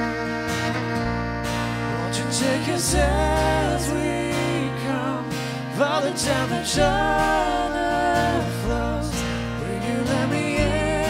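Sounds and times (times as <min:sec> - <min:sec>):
acoustic guitar: 0:00.0 - 0:11.0
low bass notes: 0:00.0 - 0:11.0
violin: 0:00.0 - 0:11.0
person singing: 0:01.9 - 0:11.0.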